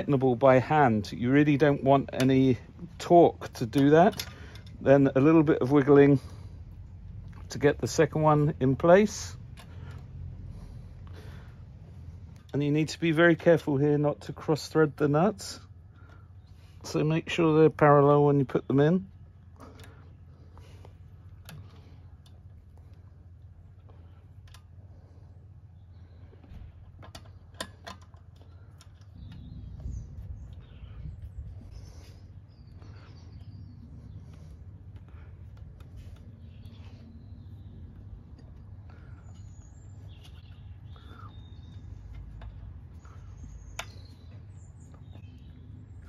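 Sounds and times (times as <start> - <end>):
birds chirping: 0.0 - 46.0
low steady rumble: 0.0 - 46.0.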